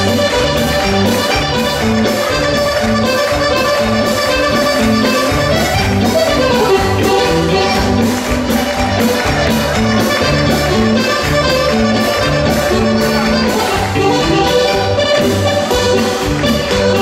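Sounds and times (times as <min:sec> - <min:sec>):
button accordion folk tune: 0:00.0 - 0:17.0
drum kit steady beat: 0:00.0 - 0:17.0.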